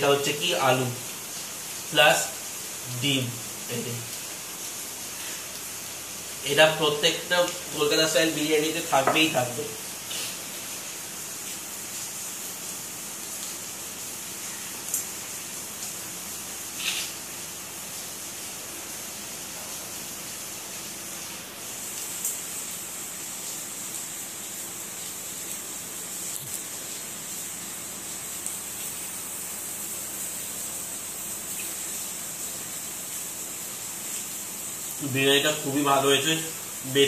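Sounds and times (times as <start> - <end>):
high-pitched hiss: 0.0 - 37.0.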